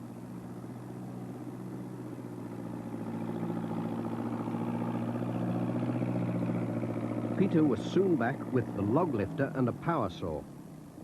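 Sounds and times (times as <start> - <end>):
log-lifting machine engine running: 0.0 - 11.0.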